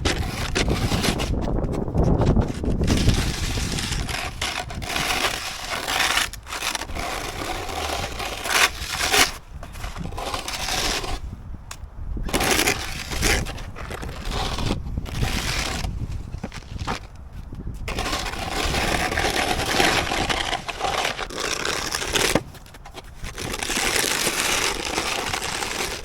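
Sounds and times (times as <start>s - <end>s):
snow shovel scraping snow: 0.0s - 11.3s, 12.3s - 17.1s, 17.9s - 26.0s.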